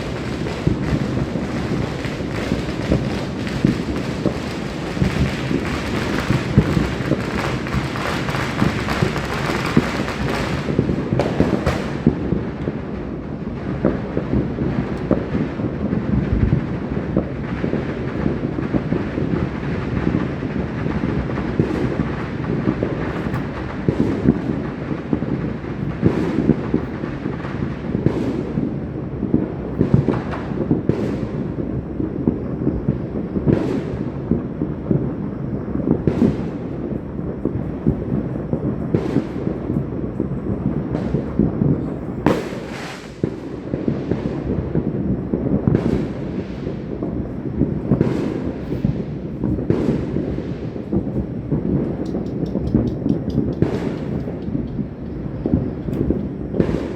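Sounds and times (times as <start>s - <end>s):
fireworks booming and crackling: 0.0s - 56.9s
sharp firecracker bangs: 0.0s - 56.9s.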